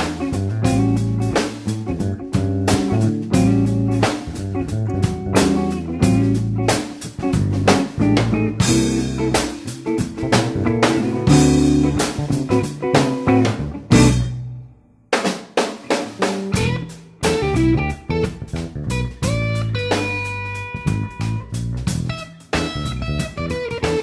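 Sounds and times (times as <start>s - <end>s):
steady drum beat: 0.0s - 14.4s, 15.1s - 24.0s
sustained bass notes: 0.0s - 14.8s, 16.5s - 24.0s
instrumental band music: 0.0s - 24.0s.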